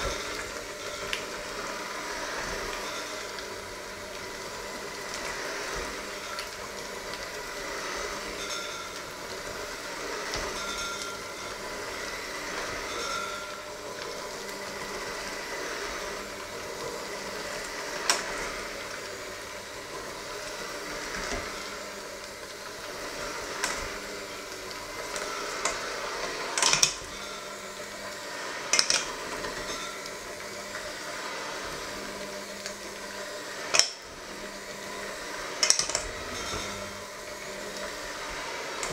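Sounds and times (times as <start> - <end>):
electric hand mixer running: 0.0 - 38.9.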